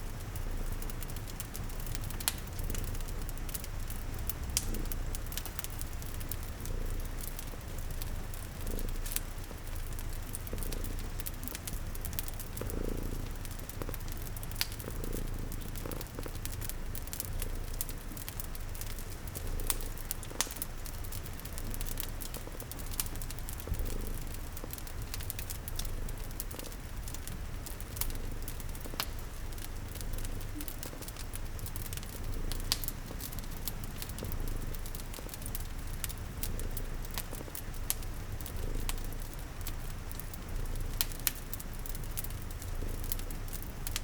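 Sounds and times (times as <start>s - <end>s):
cat purring: 0.0s - 44.0s
rain pattering: 0.0s - 44.0s
wood fire crackling: 0.0s - 44.0s.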